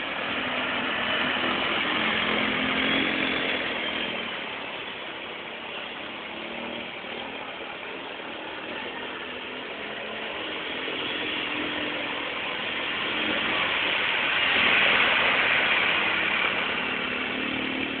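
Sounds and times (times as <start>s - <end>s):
water splashing off tyres: 0.0s - 18.0s.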